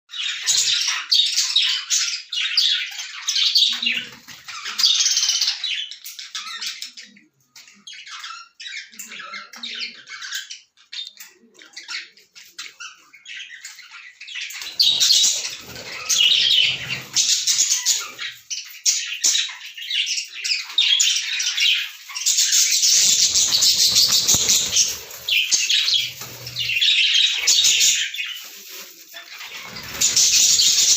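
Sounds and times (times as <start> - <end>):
lovebirds chirping and squawking: 0.1 - 30.9.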